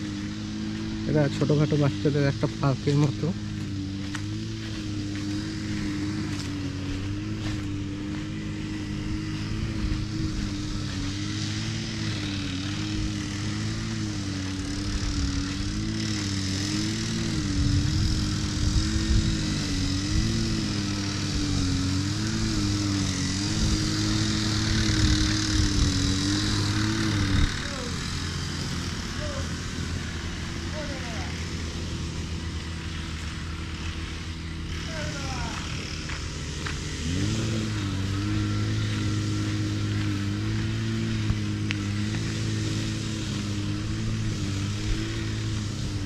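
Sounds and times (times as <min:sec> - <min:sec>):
engine drone: 0:00.0 - 0:46.0.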